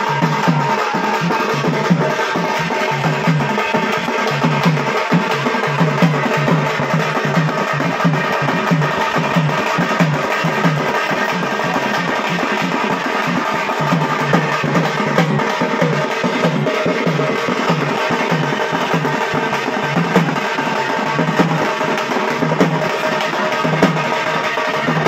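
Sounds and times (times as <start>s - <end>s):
barrel drums dance rhythm: 0.0s - 25.0s.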